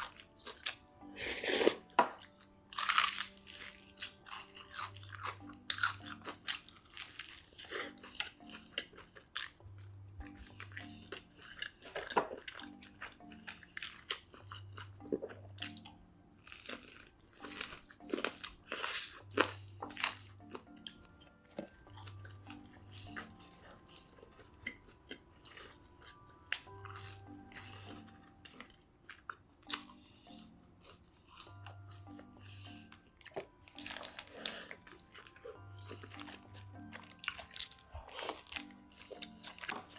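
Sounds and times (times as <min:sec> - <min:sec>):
crunching and chewing: 0:00.0 - 0:39.9
soft background music: 0:00.0 - 0:39.9.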